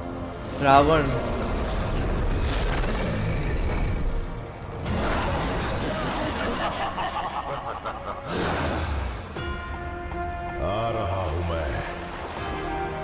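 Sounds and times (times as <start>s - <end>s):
dramatic music: 0.0s - 13.0s.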